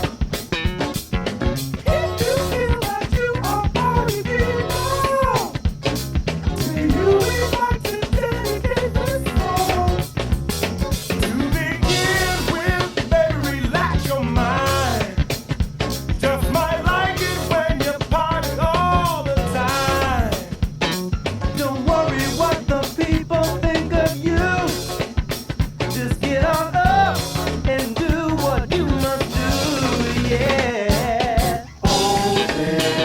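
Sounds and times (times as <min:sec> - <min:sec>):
drum kit beat: 0:00.0 - 0:33.0
rock song: 0:00.0 - 0:33.0.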